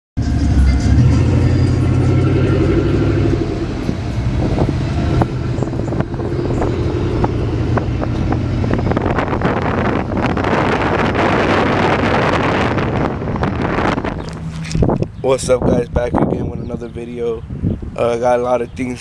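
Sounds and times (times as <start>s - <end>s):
vehicle engine running: 0.2s - 16.3s.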